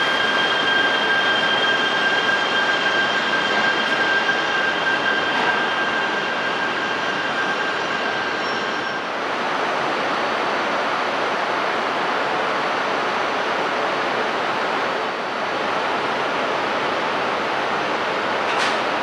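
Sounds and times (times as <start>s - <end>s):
train rushing noise: 0.0s - 19.0s.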